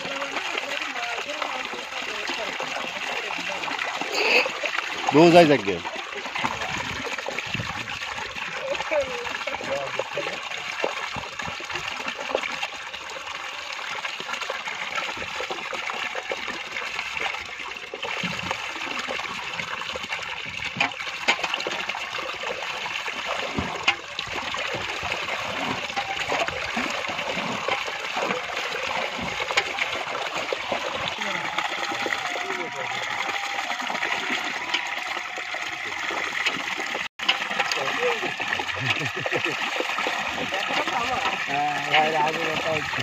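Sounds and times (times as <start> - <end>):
sharp water splashes: 0.0 - 43.0
water rushing through net: 0.0 - 43.0.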